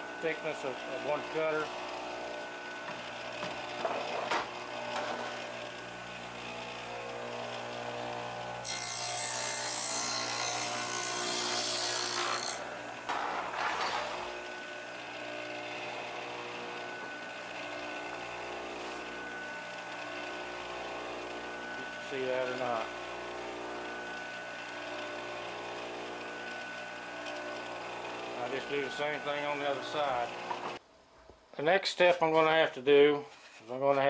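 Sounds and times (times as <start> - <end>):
saw cutting wooden board: 0.0 - 30.8
saw motor humming: 0.0 - 30.8.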